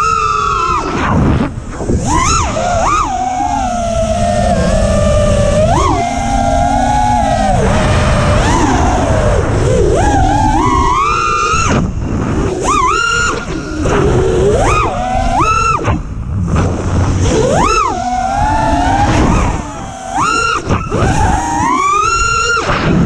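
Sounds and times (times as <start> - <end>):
drone motors whining: 0.0 - 23.0
wind rush: 0.0 - 23.0.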